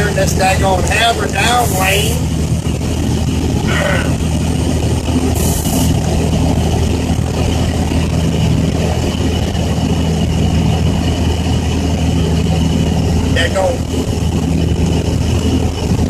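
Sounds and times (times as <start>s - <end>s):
diesel truck engine cruising: 0.0s - 16.0s.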